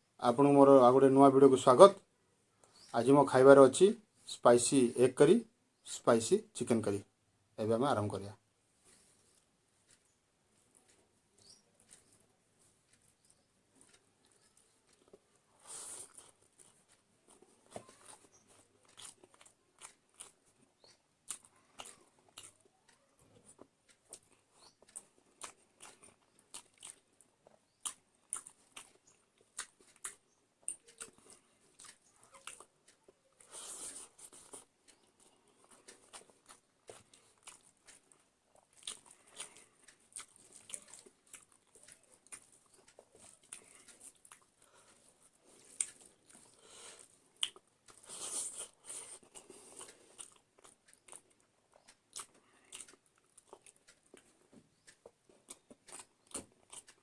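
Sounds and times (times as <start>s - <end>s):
person chewing and crunching: 8.8s - 57.0s.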